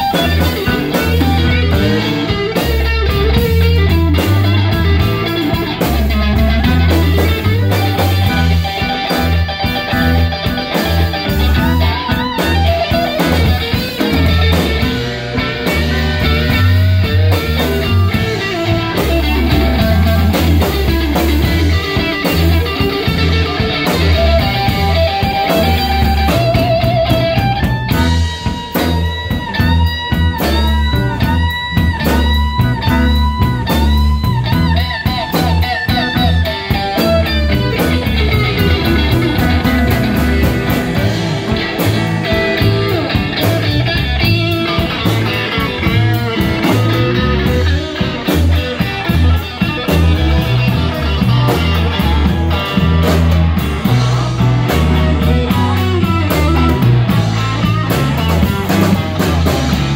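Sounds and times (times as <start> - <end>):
bass line: 0.0 - 59.9
cigar box guitar: 0.0 - 59.9
drums: 0.0 - 59.9
electric guitars: 0.0 - 59.9
guitar bent notes: 0.0 - 59.9.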